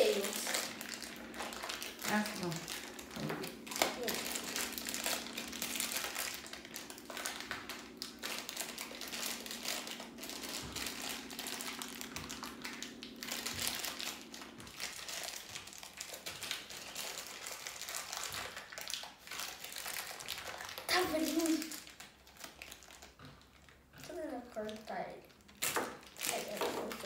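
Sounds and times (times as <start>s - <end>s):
low steady hum: 0.0s - 27.0s
plastic crinkling and clicking: 0.0s - 27.0s.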